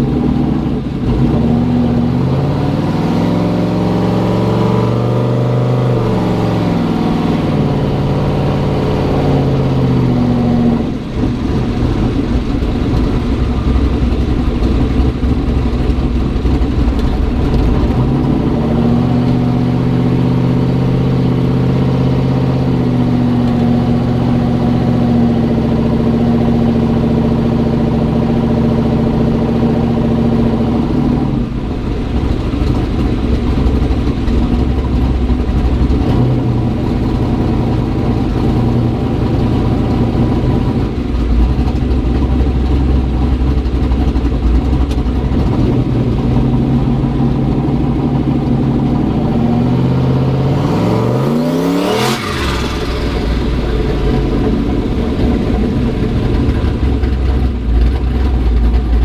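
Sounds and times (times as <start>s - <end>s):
turbocharged engine driving: 0.0s - 59.0s.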